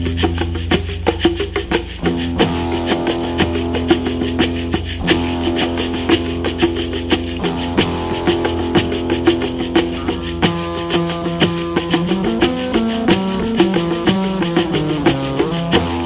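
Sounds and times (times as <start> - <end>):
plucked string instrument: 0.0 - 16.0
shaker rhythm: 0.0 - 16.0
steady low drone: 0.0 - 16.0.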